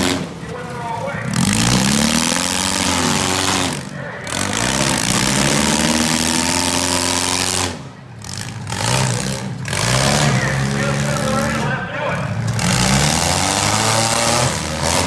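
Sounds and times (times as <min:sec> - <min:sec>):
car engines revving: 0:00.0 - 0:15.0
rough exhaust noise: 0:00.0 - 0:15.0.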